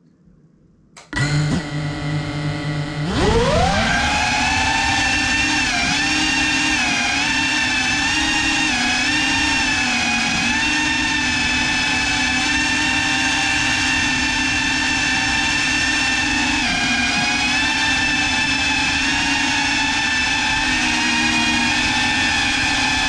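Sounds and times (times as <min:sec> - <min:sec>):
quadcopter propellers whining: 0:01.0 - 0:23.0.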